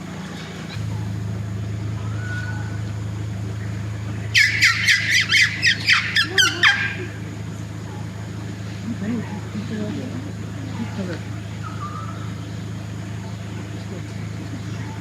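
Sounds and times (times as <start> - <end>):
car engine idling: 0.0 - 15.0
bird harsh calls: 0.2 - 15.0.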